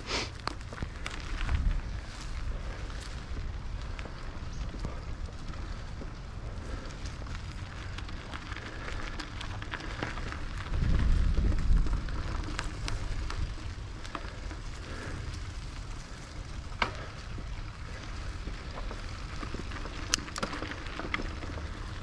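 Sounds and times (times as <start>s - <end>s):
bike tyres rolling over gravel: 0.0s - 22.0s
wind rumble on microphone: 0.4s - 22.0s.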